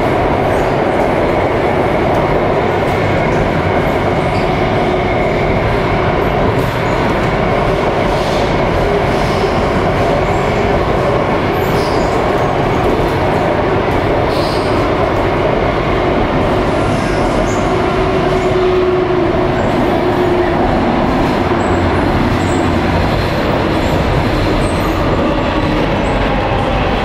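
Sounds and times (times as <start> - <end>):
metro train running: 0.0 - 27.0.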